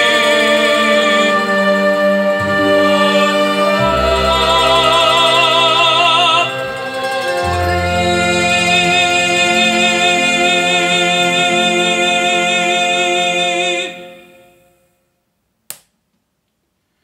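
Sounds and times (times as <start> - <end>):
operatic tenor singing: 0.0 - 14.7
sustained backing chord: 0.0 - 14.7.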